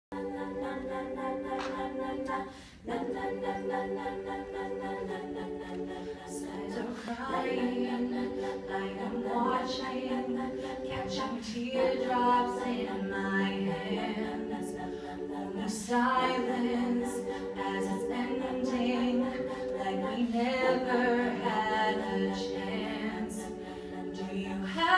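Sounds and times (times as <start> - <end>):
women singing a cappella chords: 0.1 - 24.9.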